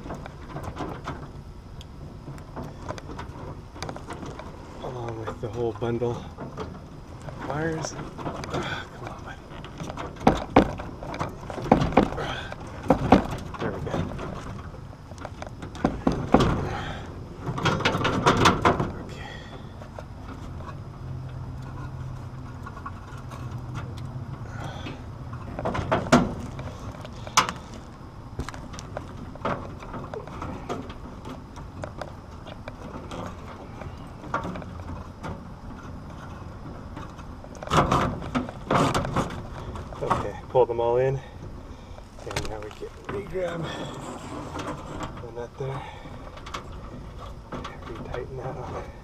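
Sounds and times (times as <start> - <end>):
knocks and clicks of handling wires: 0.0 - 40.6, 41.4 - 49.0.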